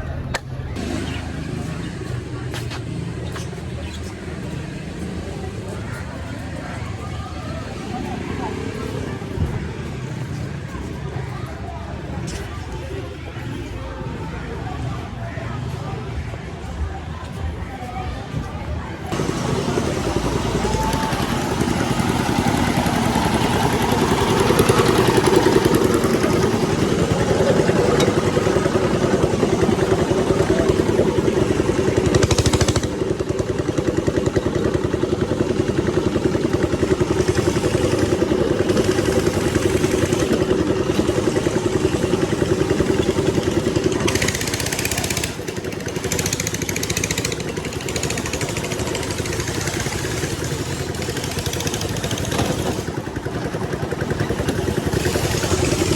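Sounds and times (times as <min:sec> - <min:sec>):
engine humming steadily: 0:00.0 - 0:55.9.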